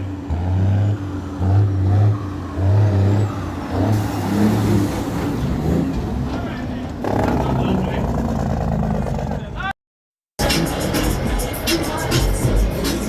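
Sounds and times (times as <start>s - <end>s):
heavy truck engine rumbling: 0.0s - 9.7s, 10.4s - 13.0s.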